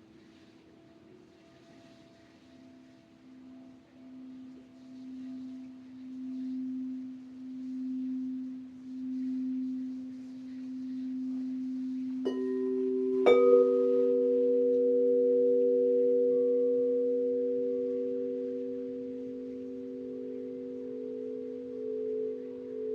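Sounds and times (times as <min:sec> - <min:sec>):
crystal singing bowls ringing: 0:00.2 - 0:22.9.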